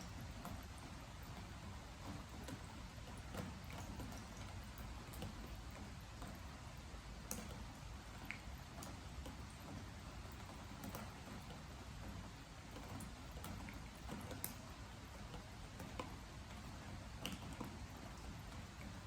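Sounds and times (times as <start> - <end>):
drips ticking on wooden boards: 0.0 - 19.0
faint rain hiss: 0.0 - 19.0.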